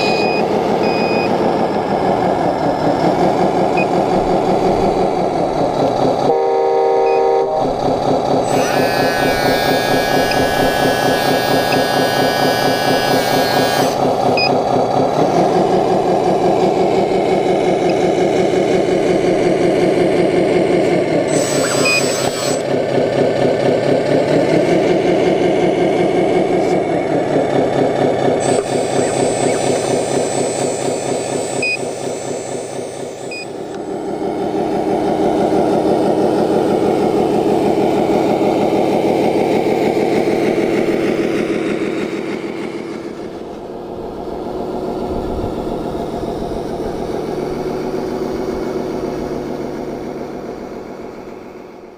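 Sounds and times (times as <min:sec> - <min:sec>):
simulated diesel truck engine: 0:00.0 - 0:51.9.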